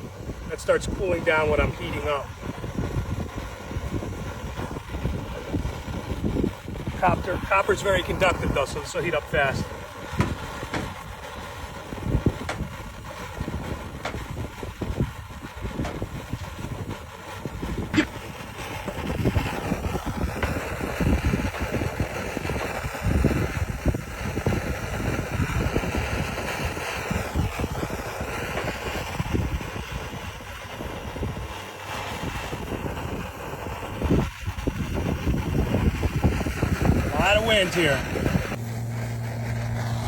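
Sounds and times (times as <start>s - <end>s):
strong wind gusting: 0.0s - 38.6s.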